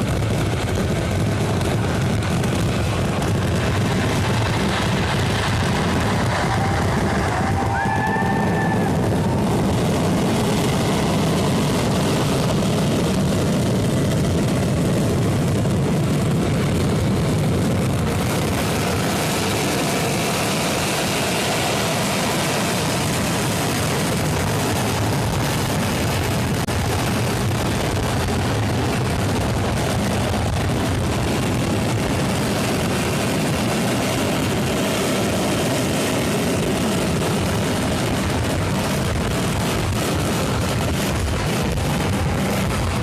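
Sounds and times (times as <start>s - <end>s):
fireworks barrage: 0.0s - 43.0s.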